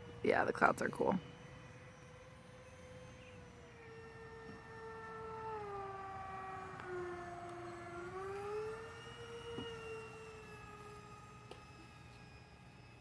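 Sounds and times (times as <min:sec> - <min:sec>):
model jet fans whining: 0:00.0 - 0:13.0.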